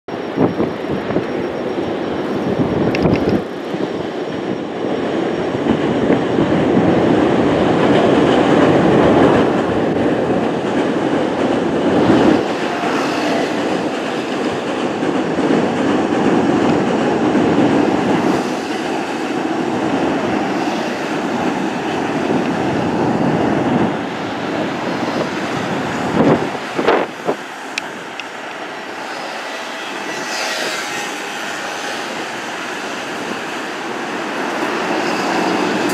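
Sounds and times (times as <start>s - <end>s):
train wheels rumbling on rails: 0.1s - 35.9s.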